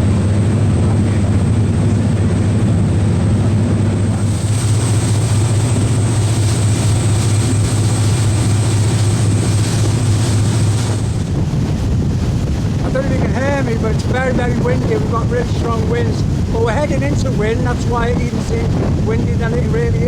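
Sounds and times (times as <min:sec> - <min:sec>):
boat engines droning: 0:00.0 - 0:20.0
strong wind buffeting microphone: 0:00.0 - 0:20.0.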